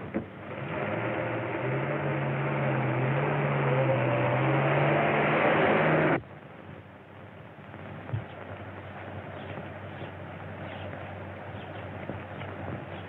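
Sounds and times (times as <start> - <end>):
car engine running hard: 0.0 - 6.2, 8.0 - 13.0.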